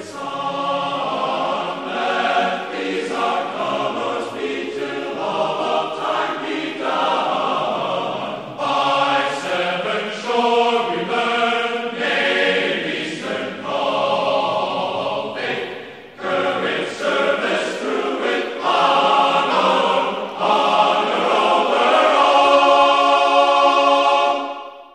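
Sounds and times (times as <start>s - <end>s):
choir singing sustained chords: 0.0s - 24.9s.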